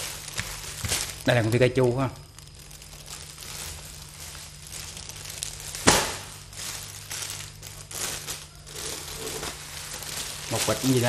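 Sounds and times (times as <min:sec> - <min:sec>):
loud plastic crackle: 0:00.0 - 0:11.0
plastic wrapping rustling: 0:00.0 - 0:11.0.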